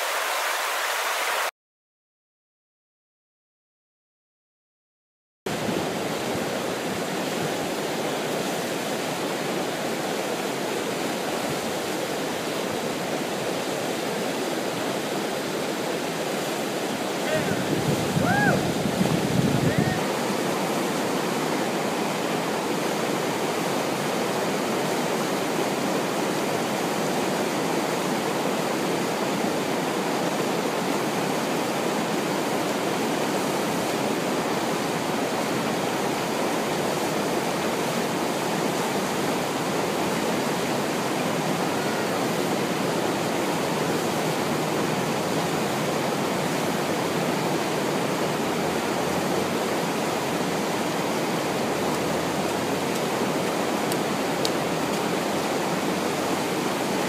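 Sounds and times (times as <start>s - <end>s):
whitewater roar: 0.0s - 1.5s, 5.5s - 57.0s.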